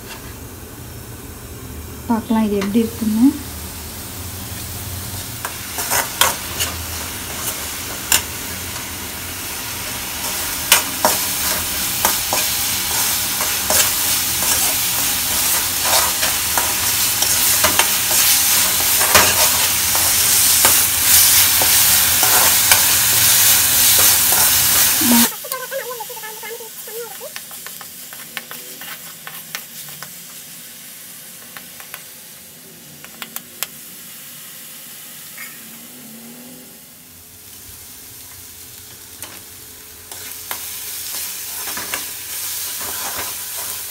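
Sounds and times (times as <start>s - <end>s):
onion paste sizzling in oil: 0.0s - 36.2s, 37.2s - 43.9s.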